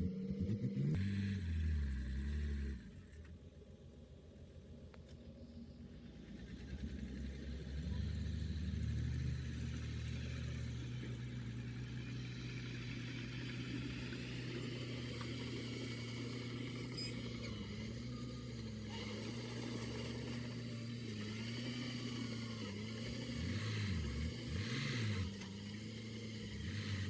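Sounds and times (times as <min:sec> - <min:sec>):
heavy machinery diesel engine: 0:00.0 - 0:03.2, 0:05.3 - 0:27.0.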